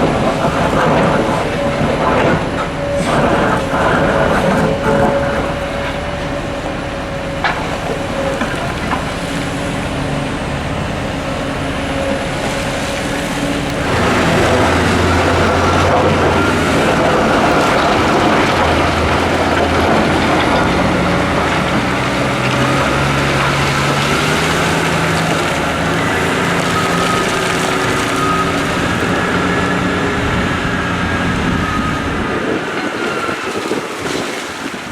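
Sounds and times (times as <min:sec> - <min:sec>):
heavy diesel engines running: 0:00.0 - 0:34.9.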